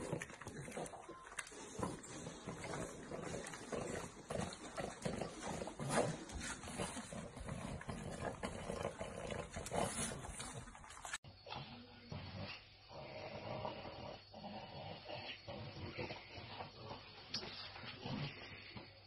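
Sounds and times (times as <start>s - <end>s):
dogs grunting and growling: 0.0s - 19.0s.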